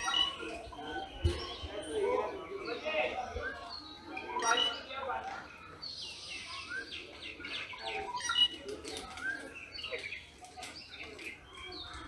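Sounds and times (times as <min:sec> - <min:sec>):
wild birds chirping and whistling: 0:00.0 - 0:12.0.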